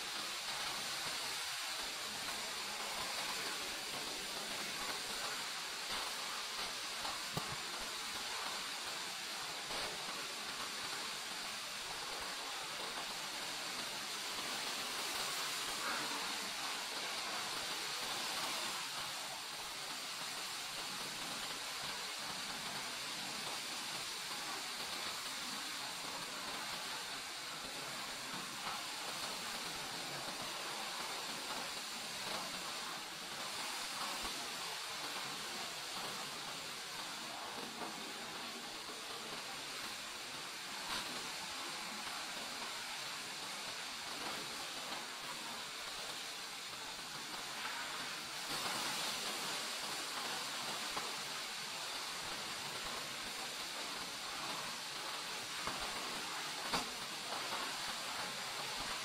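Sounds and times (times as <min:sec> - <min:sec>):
spray hissing on car: 0:00.0 - 0:59.0.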